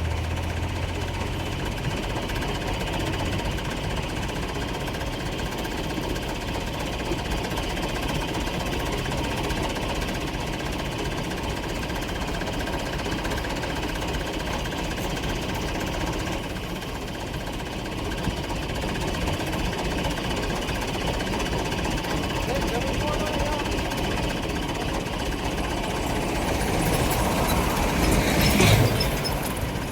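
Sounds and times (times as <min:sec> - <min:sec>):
vehicle engine with knocking rattle: 0:00.0 - 0:29.9.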